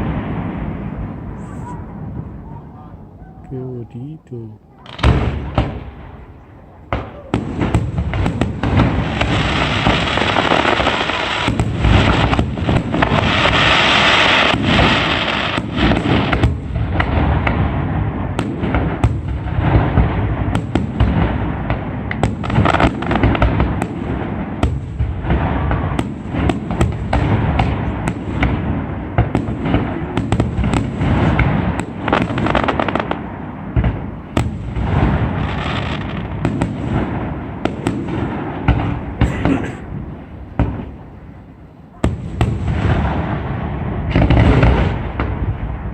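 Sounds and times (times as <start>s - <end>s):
fireworks bangs: 0.0s - 4.0s, 4.6s - 45.9s
fireworks crackling: 0.0s - 45.9s.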